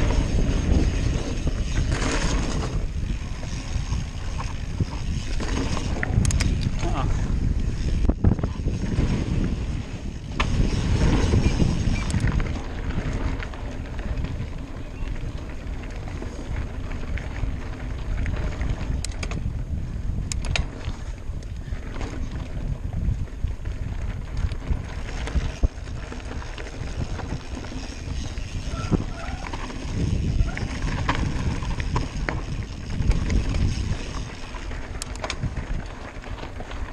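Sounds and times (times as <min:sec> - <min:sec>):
bike clicks and rattles: 0:00.0 - 0:36.9
bike tyres rolling on gravel: 0:00.0 - 0:36.9
wind on microphone: 0:00.0 - 0:36.9.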